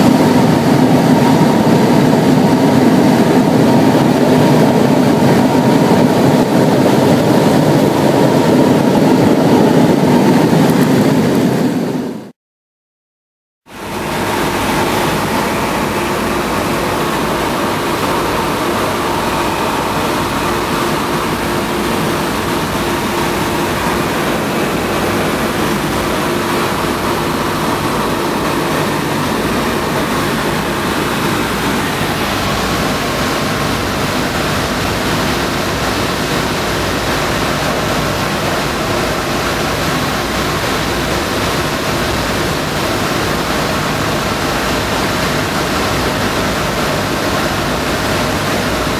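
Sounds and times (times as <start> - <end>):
aircraft engines droning: 0.0 - 12.3, 13.7 - 48.9
rushing airflow: 0.0 - 12.3, 13.7 - 48.9.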